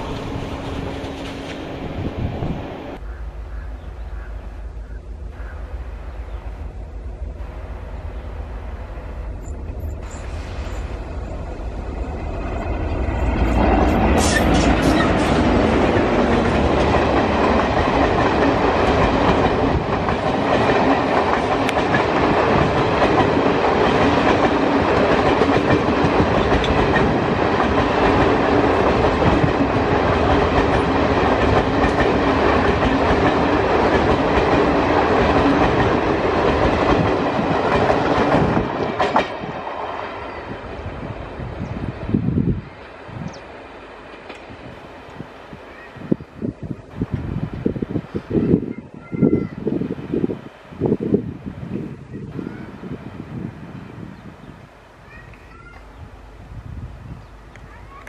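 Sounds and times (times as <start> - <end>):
train clatter passing: 0.0 - 4.6, 5.3 - 54.1
electric locomotive rumble: 0.0 - 58.0
train wheels rushing on track: 0.0 - 58.0.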